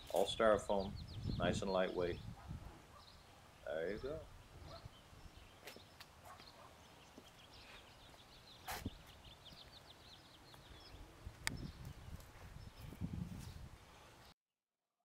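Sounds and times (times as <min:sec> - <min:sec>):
faint bird chirping: 0:00.2 - 0:14.4.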